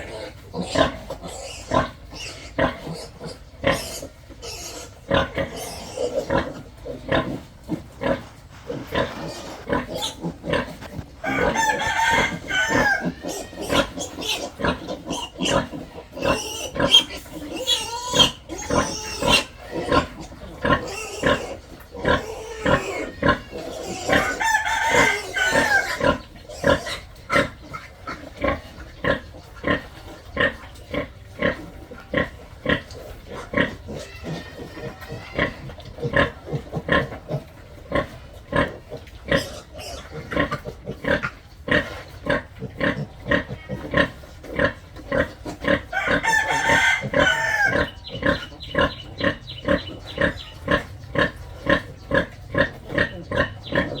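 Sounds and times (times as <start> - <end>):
pigs grunting: 0.0 - 54.0
pigs squealing: 0.0 - 54.0.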